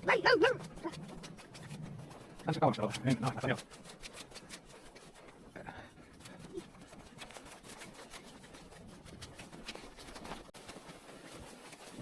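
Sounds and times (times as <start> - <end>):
footsteps crunching in snow: 0.5 - 12.0.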